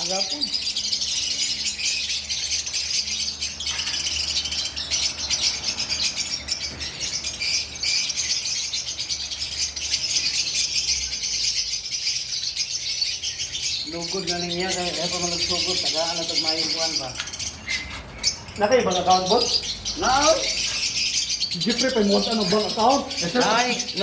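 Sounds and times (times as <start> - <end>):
birds chattering and chirping: 0.0 - 24.0.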